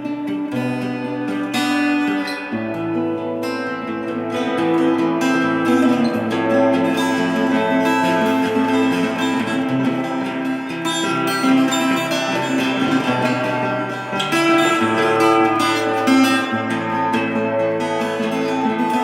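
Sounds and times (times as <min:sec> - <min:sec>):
solo acoustic guitar: 0:00.0 - 0:19.0.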